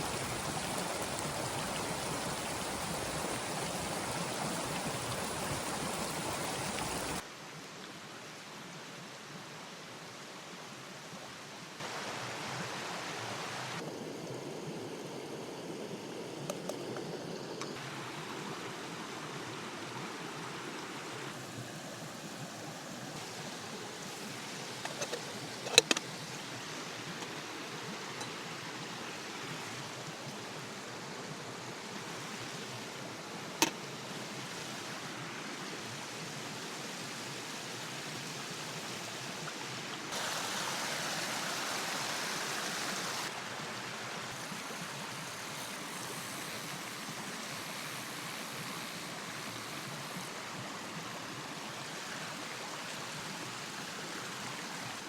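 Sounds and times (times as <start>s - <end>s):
flowing river water: 0.0s - 55.0s
rain: 0.0s - 55.0s.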